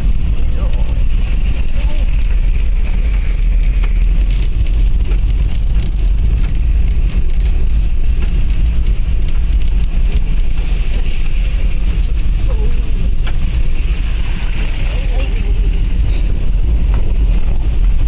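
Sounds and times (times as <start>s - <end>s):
truck engine rumble: 0.0s - 18.0s
tyres on rough dirt: 0.0s - 18.0s.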